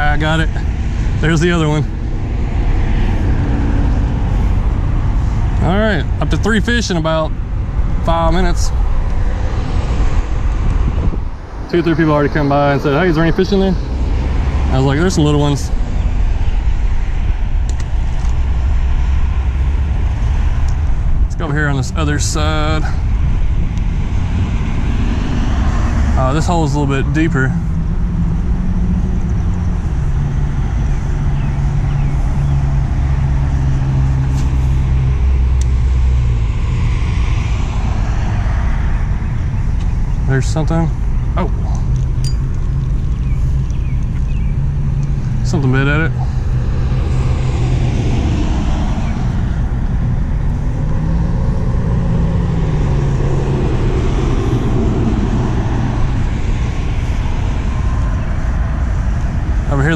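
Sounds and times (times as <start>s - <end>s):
road traffic passing: 0.0s - 59.9s
vehicle engine rising and falling: 0.0s - 59.9s.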